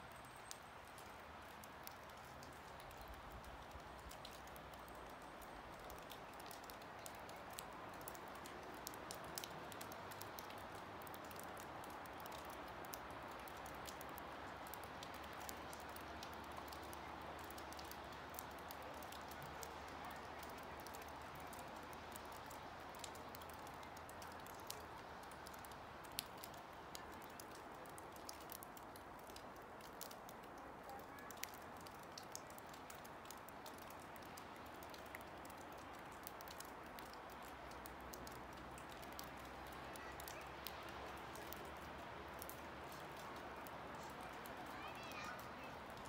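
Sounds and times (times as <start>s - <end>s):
faint steady hiss: 0.0s - 46.0s
small irregular clicks: 0.1s - 46.0s.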